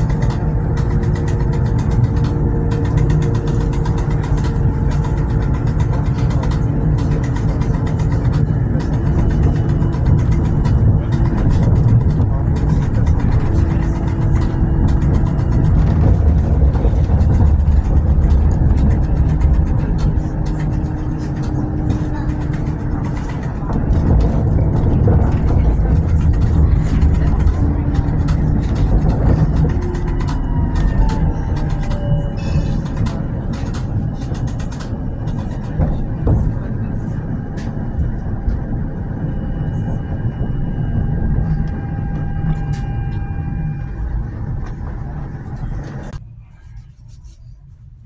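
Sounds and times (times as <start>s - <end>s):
humming motor tones: 0.0s - 46.2s
wheels clicking on rails: 0.0s - 46.2s
tram rumbling: 0.0s - 48.0s.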